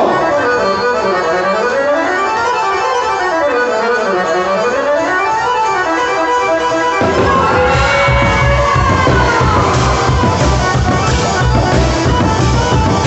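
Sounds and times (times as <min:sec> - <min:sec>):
accordion folk music: 0:00.0 - 0:13.0.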